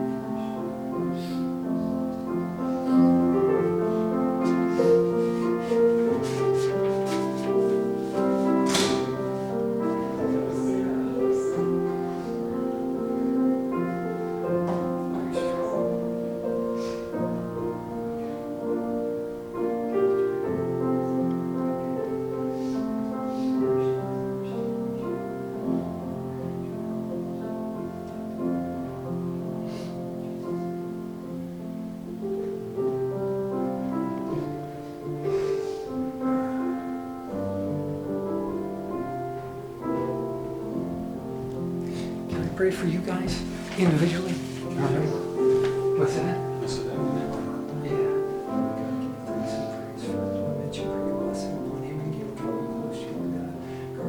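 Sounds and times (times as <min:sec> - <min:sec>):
piano playing slow chords: 0:00.0 - 0:54.0.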